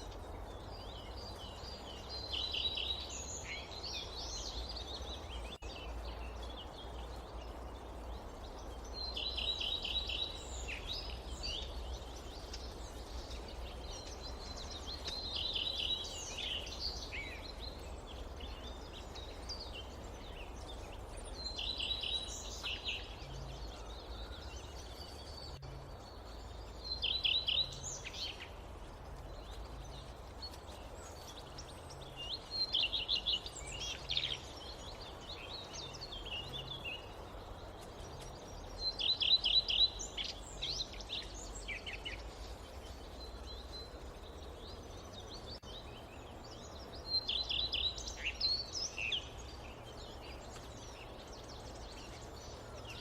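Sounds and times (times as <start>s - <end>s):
forest ambience hiss and rumble: 0.0s - 53.0s
songbird singing: 0.0s - 53.0s.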